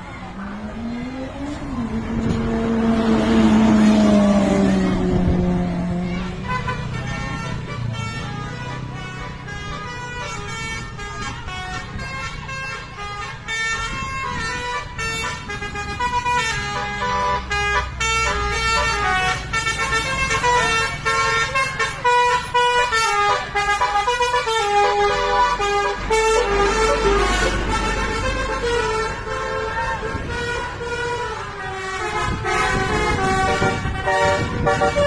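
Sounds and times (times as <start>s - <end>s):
low engine rumble: 0.0s - 35.0s
multi-tone bus horn tune: 0.3s - 35.0s.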